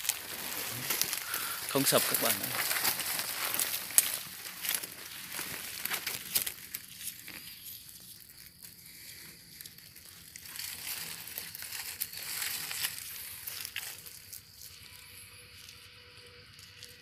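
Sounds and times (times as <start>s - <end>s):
dry leaves crunching underfoot: 0.0s - 15.7s.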